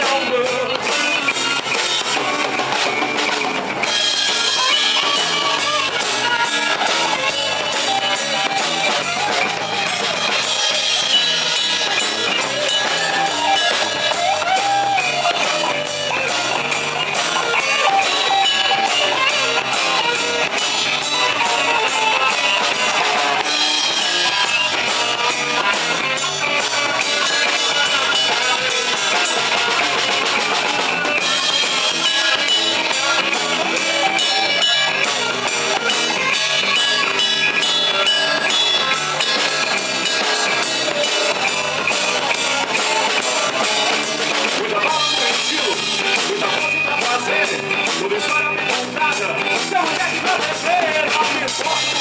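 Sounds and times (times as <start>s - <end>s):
drum kit steady beat: 0.0s - 52.0s
rock guitar: 0.0s - 52.0s.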